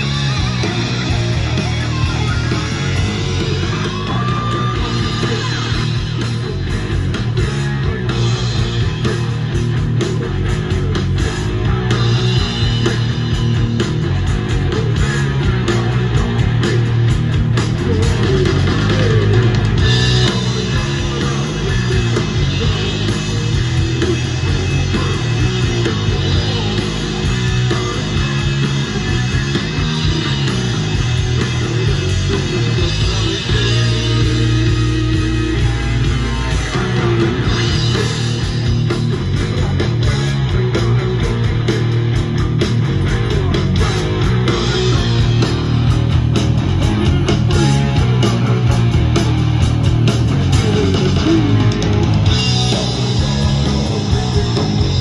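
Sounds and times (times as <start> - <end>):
heavy rock song over speakers: 0.0 - 55.0.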